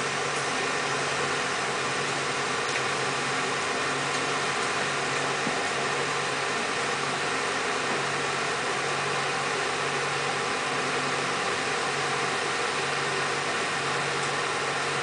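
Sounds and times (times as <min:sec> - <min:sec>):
machinery engine-like hum: 0:00.0 - 0:15.0.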